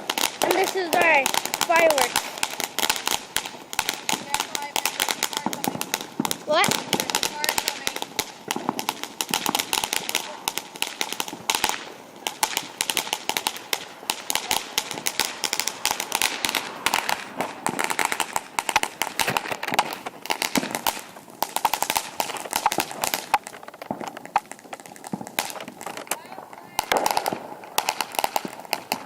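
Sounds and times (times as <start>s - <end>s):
firecrackers popping: 0.0s - 29.0s.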